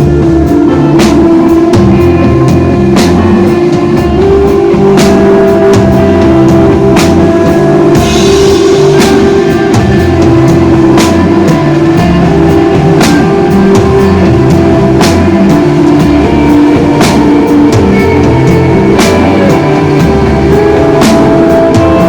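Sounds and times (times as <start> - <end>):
drum and cymbal hits: 0.0 - 22.0
electric guitar sustained notes: 0.0 - 22.0
rock band playing: 0.0 - 22.0.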